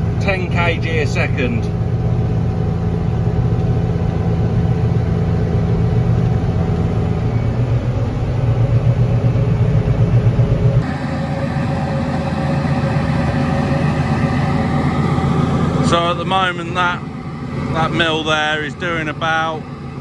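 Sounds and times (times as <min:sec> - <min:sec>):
roller mill whine and hiss: 0:00.0 - 0:20.0
tractor engine humming: 0:00.0 - 0:20.0.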